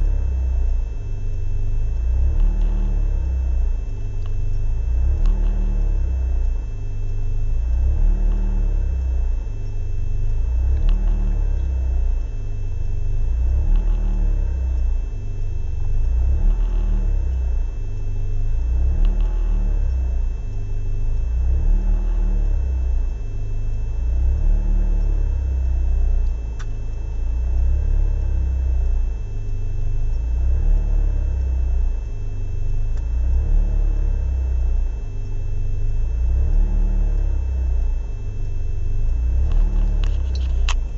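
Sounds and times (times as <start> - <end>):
engine idling roughly: 0.0 - 40.9.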